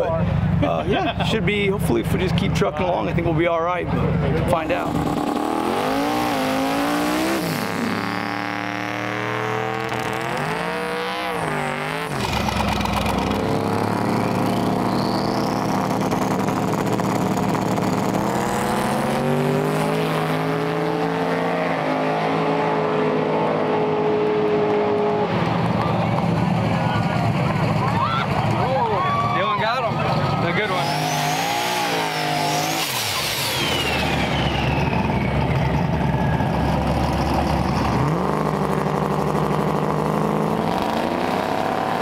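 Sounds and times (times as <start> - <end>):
race car engine revving: 0.0 - 28.8, 29.6 - 42.0
race car engines launching: 4.1 - 42.0.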